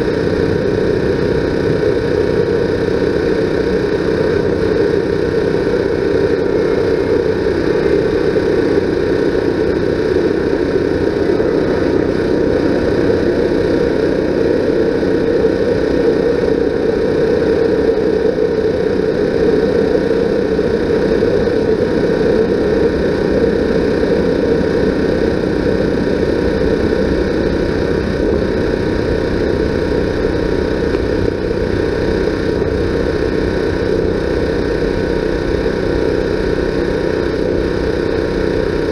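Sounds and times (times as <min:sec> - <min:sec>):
mechanical drone with hum: 0:00.0 - 0:38.9.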